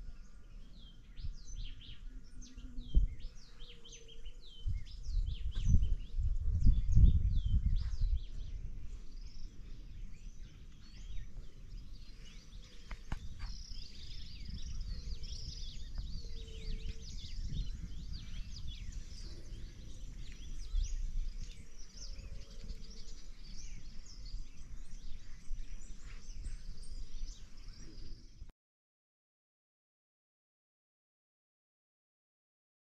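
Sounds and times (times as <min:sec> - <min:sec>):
birds chirping: 0:00.0 - 0:28.5
wind rumbling on microphone: 0:00.0 - 0:28.5.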